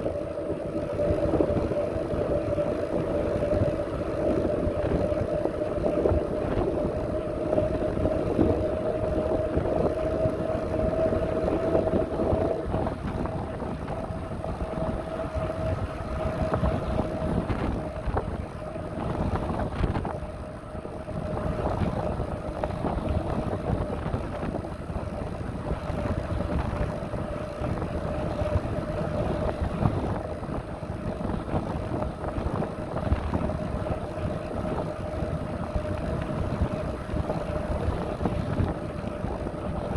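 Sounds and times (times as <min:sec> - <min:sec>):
bicycle rumble from path: 0:00.0 - 0:39.9
steady whine: 0:00.0 - 0:39.9
wind on microphone: 0:00.0 - 0:39.9.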